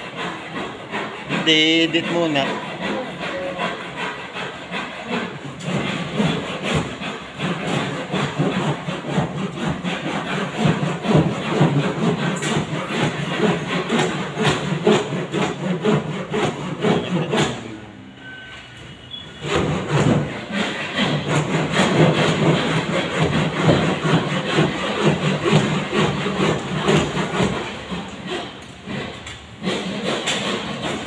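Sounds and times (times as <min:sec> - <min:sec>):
rhythmic rasping strokes: 0:00.0 - 0:17.8, 0:19.4 - 0:31.0.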